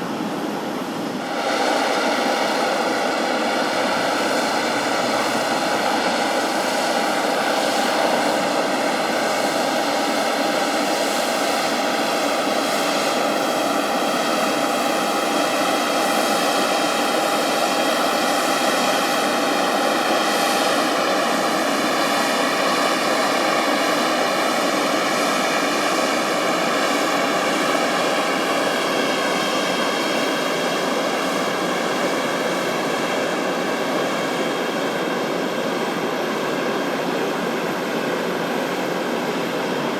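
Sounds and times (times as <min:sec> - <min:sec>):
airplane engines whining: 0:00.0 - 0:39.9.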